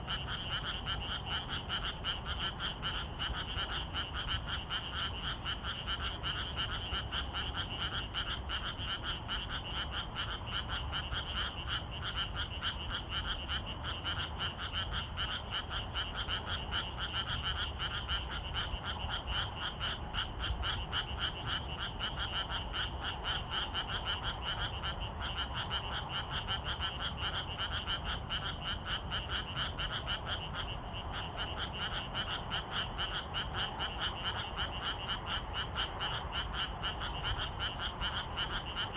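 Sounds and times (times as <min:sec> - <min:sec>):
frogs croaking in chorus: 0:00.0 - 0:38.9.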